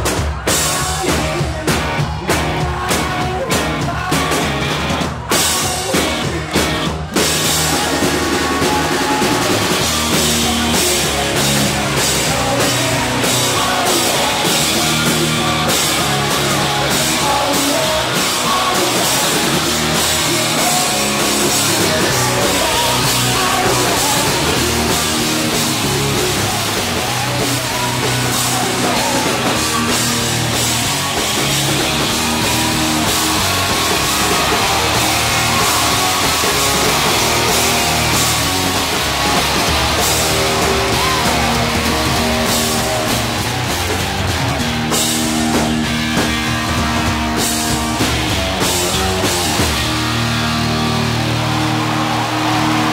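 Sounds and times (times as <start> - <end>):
live rock band playing: 0.0 - 52.9.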